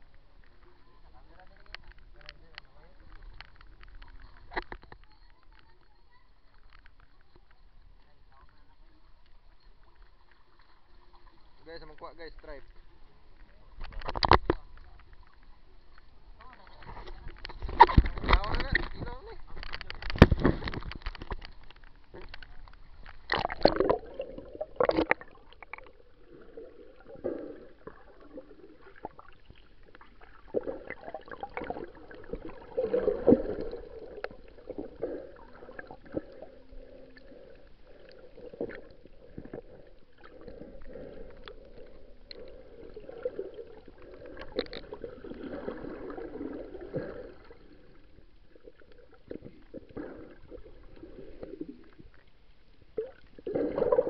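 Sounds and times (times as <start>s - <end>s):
small underwater clicks and crackles: 0.0s - 54.0s
underwater gurgling and sloshing: 0.0s - 54.0s
water splashes: 8.5s - 54.0s.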